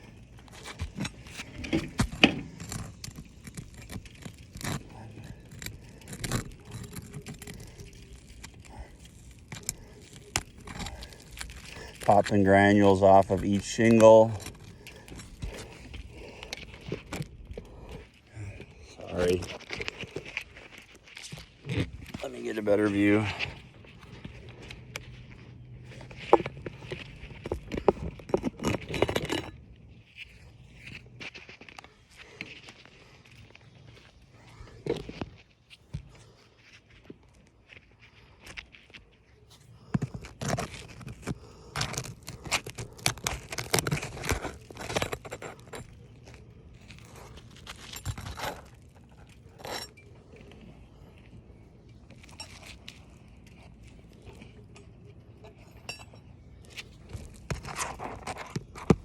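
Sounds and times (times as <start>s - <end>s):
granules popping and grinding: 0.0s - 59.0s
hand tools clicking and scraping: 0.0s - 59.0s.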